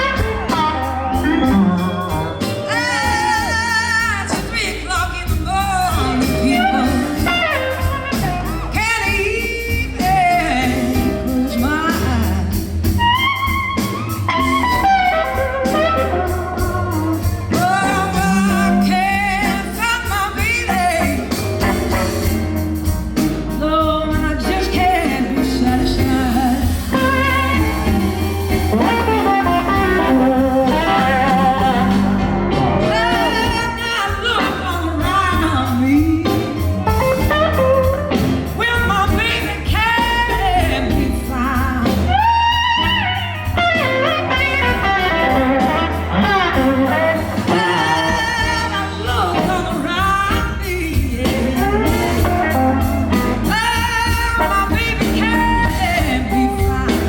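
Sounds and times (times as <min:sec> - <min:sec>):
blues band playing: 0:00.0 - 0:57.0
electric guitar lead: 0:00.0 - 0:57.0.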